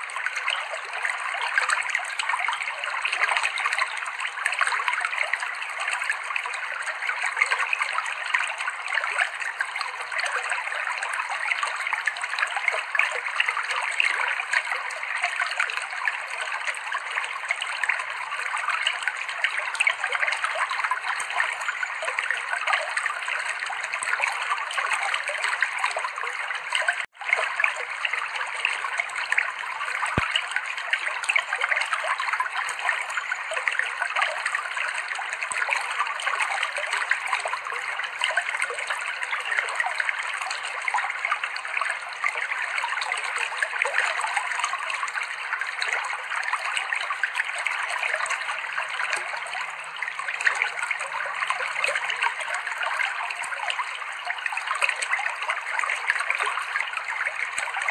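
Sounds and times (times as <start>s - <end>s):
water flowing over rocks: 0.0s - 57.9s.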